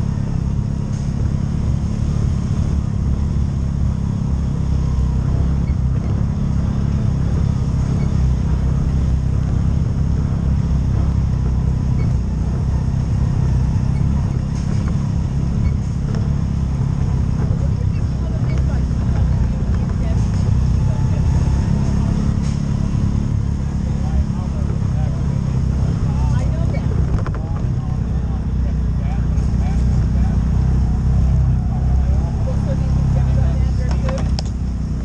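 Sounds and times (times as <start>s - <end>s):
vehicle engine droning: 0.0s - 35.0s.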